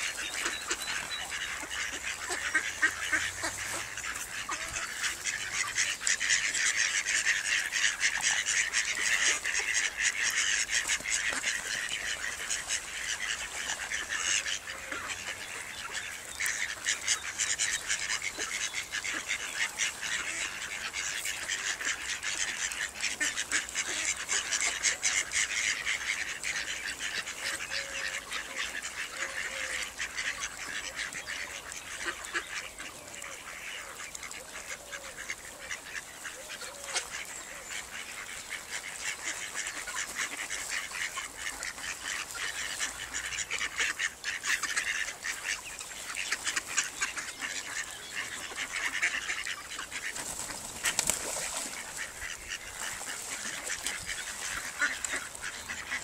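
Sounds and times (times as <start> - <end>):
ducklings peeping: 0.0 - 56.0
ducks quacking: 0.0 - 56.0.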